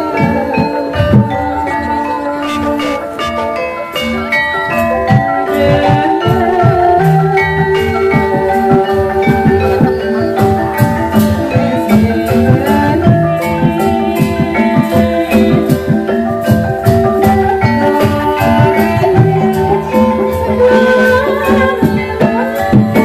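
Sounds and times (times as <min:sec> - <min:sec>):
gamelan metallophones ringing: 0:00.0 - 0:23.0
hand drum strokes: 0:00.0 - 0:23.0.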